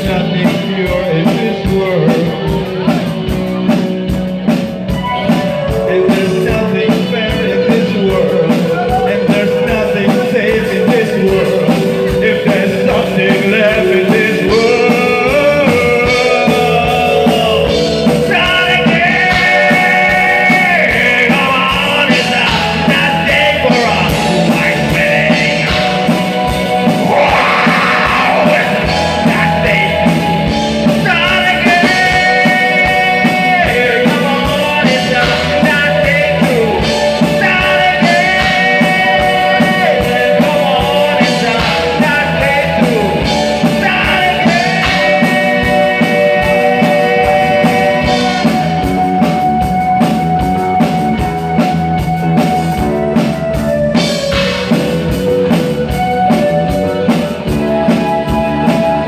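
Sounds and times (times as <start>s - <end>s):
male singer: 0.0s - 3.8s, 5.2s - 49.4s
rock band playing live: 0.0s - 59.0s.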